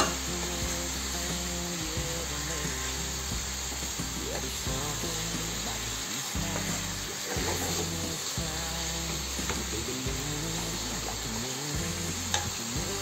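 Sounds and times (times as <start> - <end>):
background music with low notes: 0.0 - 13.0
chicken sizzling in a frying pan: 0.0 - 13.0.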